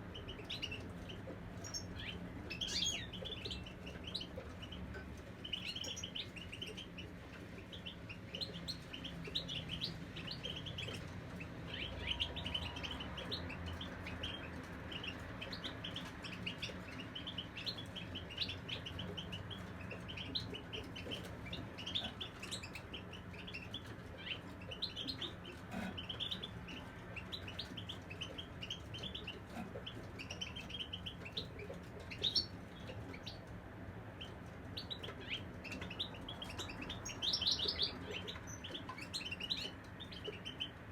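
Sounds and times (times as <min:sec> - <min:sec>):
goldfinches twittering and singing: 0:00.0 - 0:29.4, 0:34.2 - 0:40.8.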